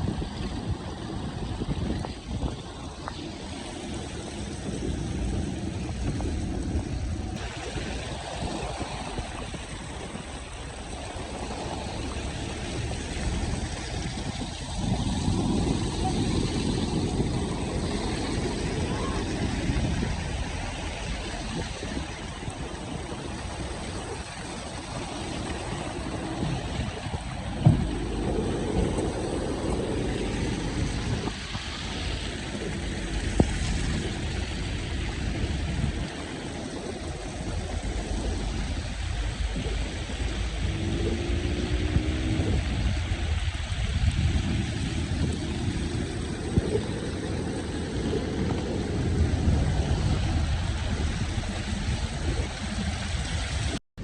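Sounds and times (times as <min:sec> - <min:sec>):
low rumble: 0:00.0 - 0:53.8
vehicle road noise: 0:00.0 - 0:53.8.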